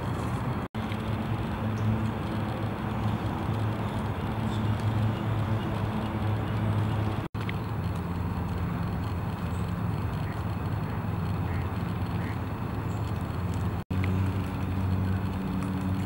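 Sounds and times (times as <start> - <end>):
distant road traffic rumble: 0.0 - 16.0
low hum: 0.0 - 16.0.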